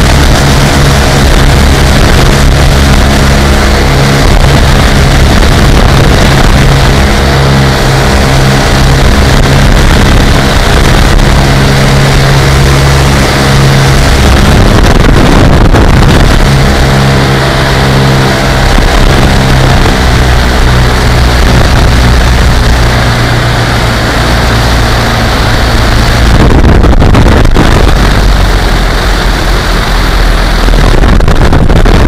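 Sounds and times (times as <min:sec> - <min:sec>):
aircraft engines droning: 0:00.0 - 0:32.0
wind rushing over microphone: 0:00.0 - 0:32.0.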